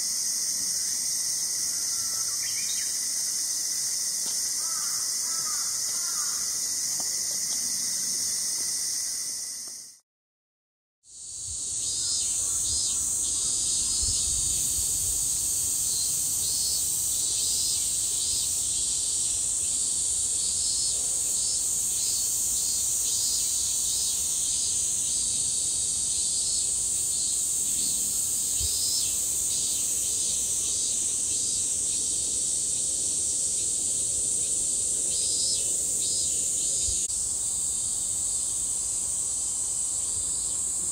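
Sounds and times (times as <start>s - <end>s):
insects chorus: 0.0s - 10.0s, 11.1s - 40.9s.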